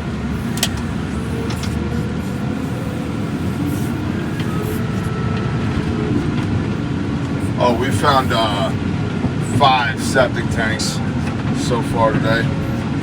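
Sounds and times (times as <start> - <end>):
faint steady tones: 0.0 - 13.0
heavy equipment engine running: 0.0 - 13.0.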